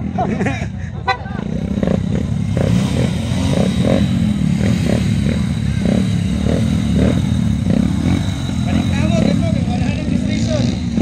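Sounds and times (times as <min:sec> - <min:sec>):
small motorcycle engines idling: 0:00.0 - 0:11.0.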